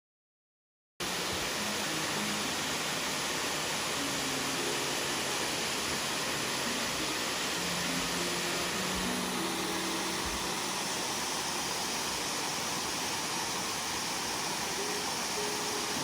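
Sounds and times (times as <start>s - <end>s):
waterfall rushing water: 1.0s - 16.0s
faint held music notes: 1.1s - 16.0s.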